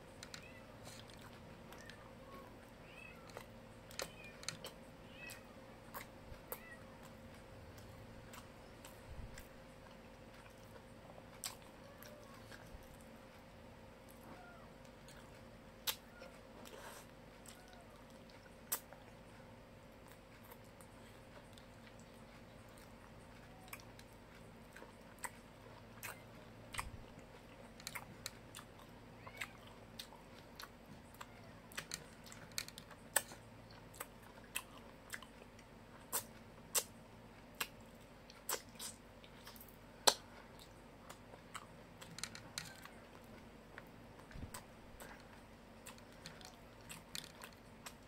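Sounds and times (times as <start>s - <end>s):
chewing and crunching food: 0.0s - 48.0s.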